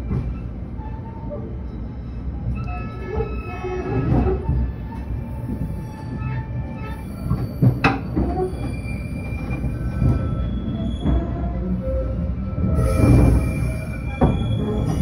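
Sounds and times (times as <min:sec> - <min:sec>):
low train rumble: 0:00.0 - 0:15.0
train wheels squealing on rails: 0:00.0 - 0:15.0.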